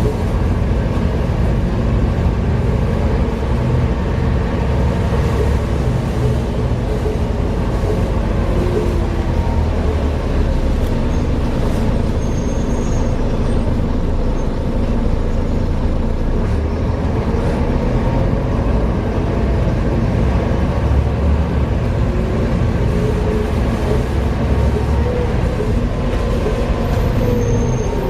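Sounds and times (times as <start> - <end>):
bus engine heavy drone: 0.0 - 28.0.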